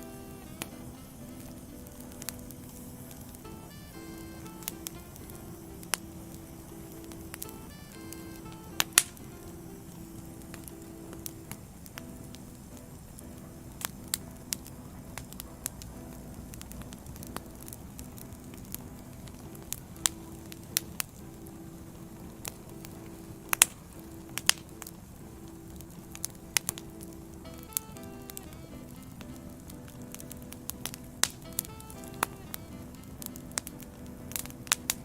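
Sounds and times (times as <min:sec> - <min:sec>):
soft background music: 0:00.0 - 0:35.0
wood fire crackling: 0:00.0 - 0:35.0
sharp pops of burning logs: 0:00.5 - 0:09.6, 0:13.3 - 0:35.0.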